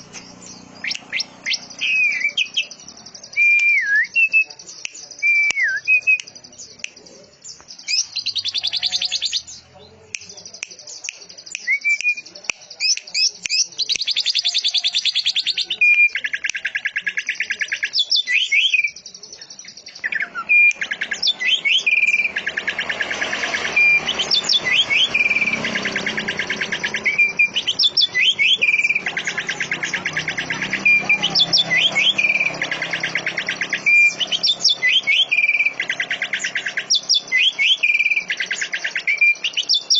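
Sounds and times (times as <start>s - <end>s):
songbird trilling and whistling: 0.0s - 9.6s, 10.2s - 39.9s.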